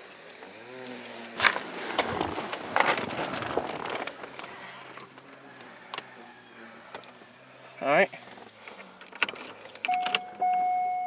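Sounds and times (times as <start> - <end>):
rustling and crackling: 0.2 - 9.9.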